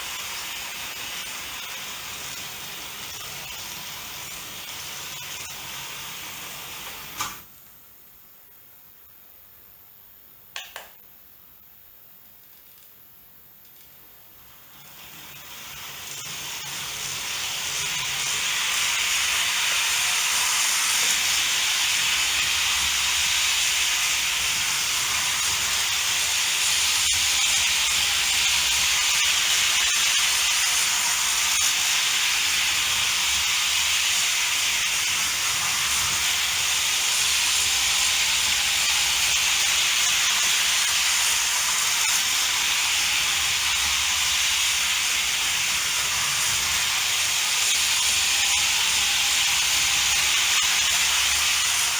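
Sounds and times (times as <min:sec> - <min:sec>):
model train hissing rush: 0:00.0 - 0:07.5, 0:14.2 - 0:51.9.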